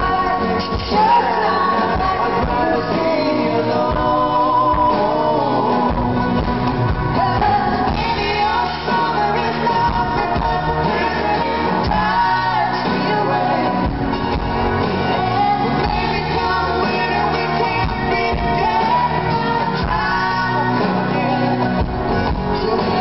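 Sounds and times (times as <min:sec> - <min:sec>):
drums: 0:00.0 - 0:23.0
live country-pop band: 0:00.0 - 0:23.0
woman singing: 0:00.0 - 0:23.0.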